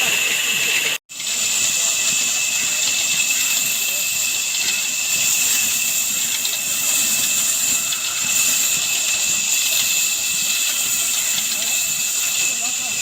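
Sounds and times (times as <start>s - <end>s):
oil engine running: 0.0s - 13.0s
saw machine whine: 0.0s - 13.0s.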